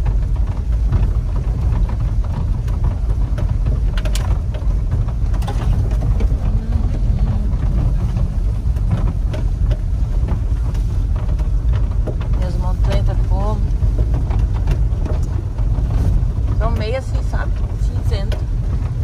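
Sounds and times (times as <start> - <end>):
knocks and rattles over bumps: 0.0 - 19.0
truck engine and tyre rumble: 0.0 - 19.0.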